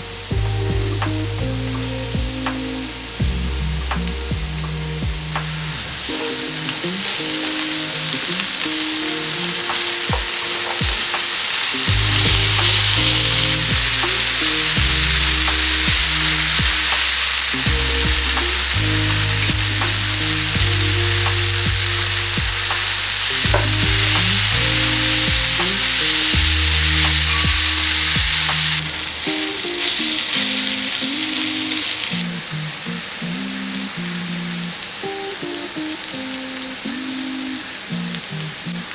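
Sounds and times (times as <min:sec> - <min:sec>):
background music with bass line: 0:00.0 - 0:31.2
food sizzling in hot oil: 0:00.0 - 0:38.9.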